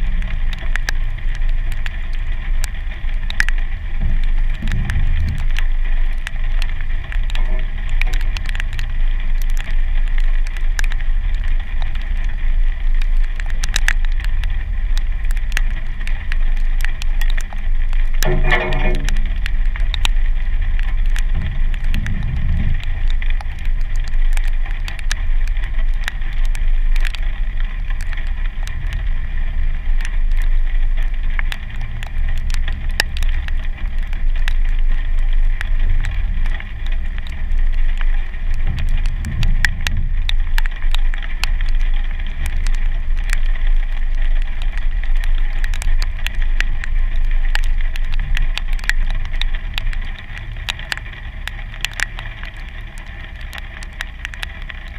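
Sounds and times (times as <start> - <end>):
car engine rumbling: 0.0 - 54.9
raindrops ticking on camera: 0.0 - 54.9.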